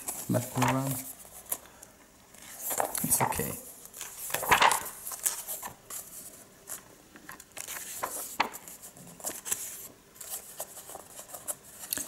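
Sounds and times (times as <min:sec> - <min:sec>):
book pages turning: 0:00.0 - 0:01.6, 0:02.3 - 0:12.0.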